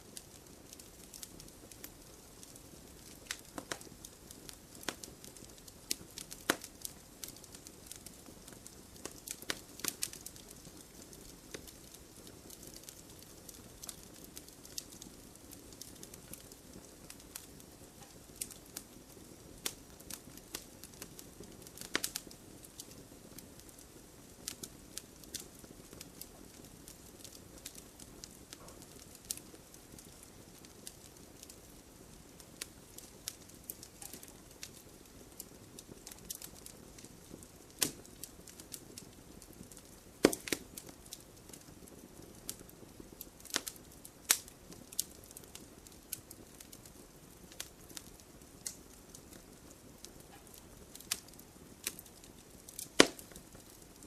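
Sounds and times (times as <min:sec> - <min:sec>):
campfire hissing: 0:00.0 - 0:54.0
fire crackling and popping: 0:00.0 - 0:54.0.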